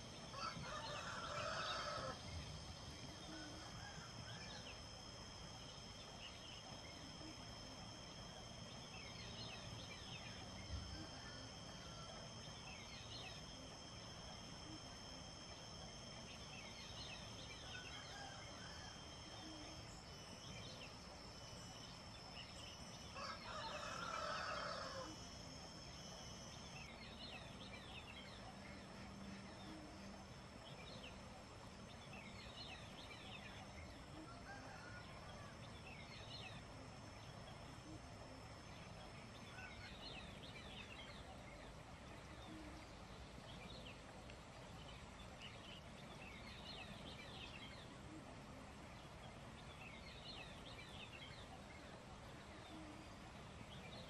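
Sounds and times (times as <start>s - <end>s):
high-pitched insect drones: 0.0s - 54.0s
songbirds chirping: 0.0s - 54.0s.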